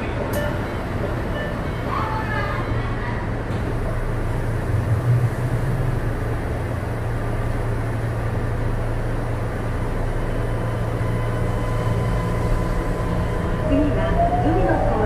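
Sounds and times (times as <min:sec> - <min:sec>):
train cabin low hum: 0:00.0 - 0:15.0.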